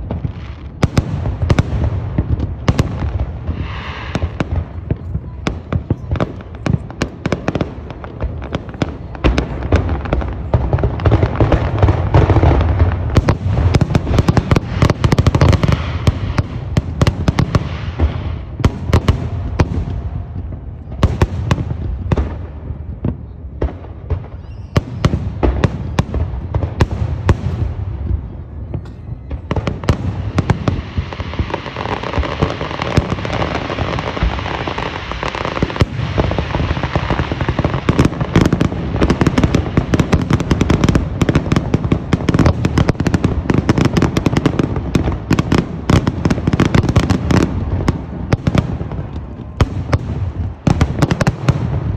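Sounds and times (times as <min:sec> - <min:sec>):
fireworks booming: 0:00.0 - 0:51.9
fireworks crackling: 0:00.0 - 0:51.9.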